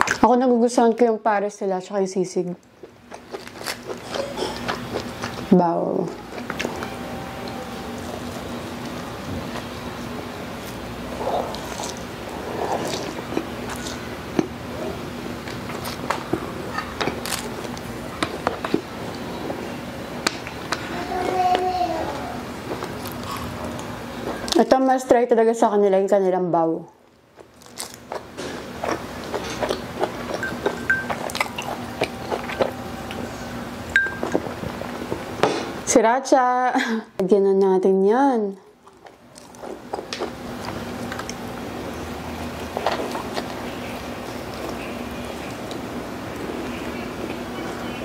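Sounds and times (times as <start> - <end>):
close-miked chewing: 2.6 - 19.7, 20.4 - 24.7, 27.3 - 35.3, 38.8 - 48.0.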